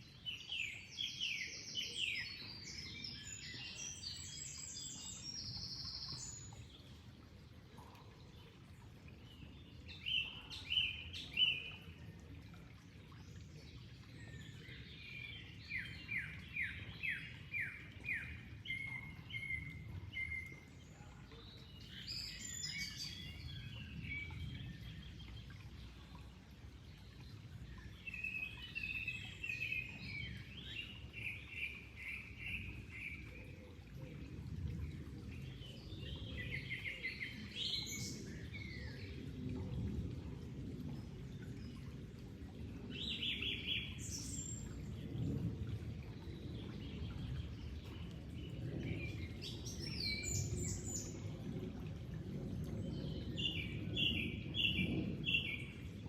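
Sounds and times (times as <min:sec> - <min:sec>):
flowing water rushing: 0:00.0 - 0:56.0
songbirds chirping: 0:00.0 - 0:56.0.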